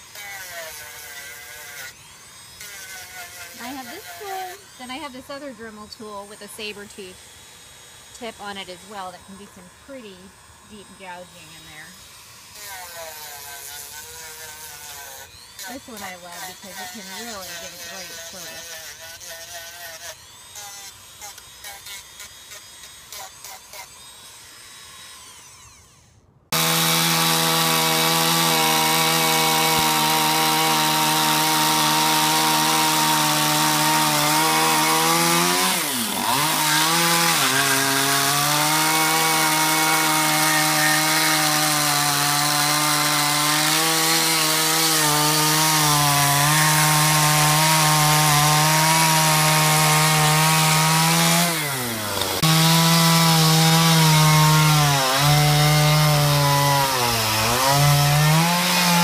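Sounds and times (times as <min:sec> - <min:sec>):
chainsaw running at high revs: 0:00.0 - 0:59.0.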